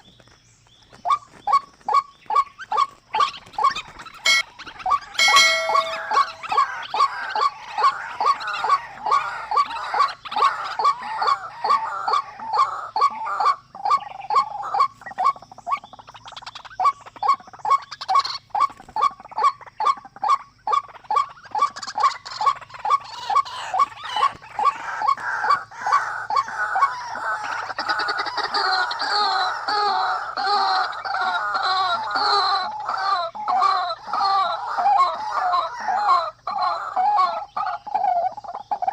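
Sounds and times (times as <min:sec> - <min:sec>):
bird calls: 0:00.0 - 0:38.9.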